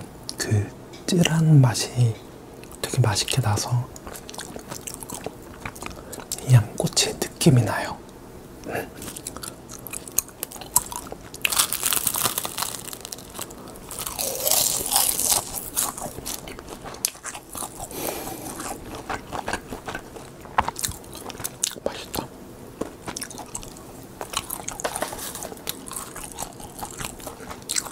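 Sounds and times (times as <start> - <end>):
crunchy chewing of dry seaweed: 2.6 - 7.3, 8.6 - 27.9.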